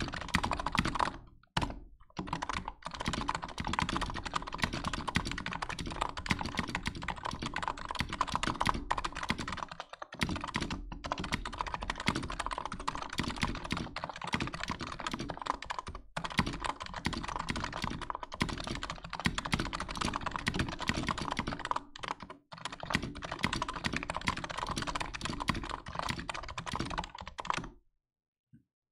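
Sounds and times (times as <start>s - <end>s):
fast keyboard typing: 0.0s - 27.8s.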